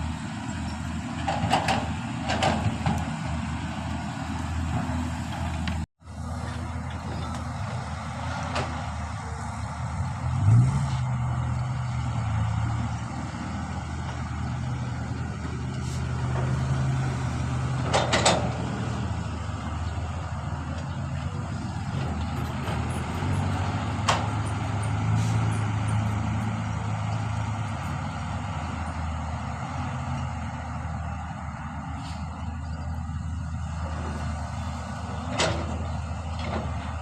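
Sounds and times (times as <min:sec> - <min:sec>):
excavator diesel engine revving: 0:00.0 - 0:37.0.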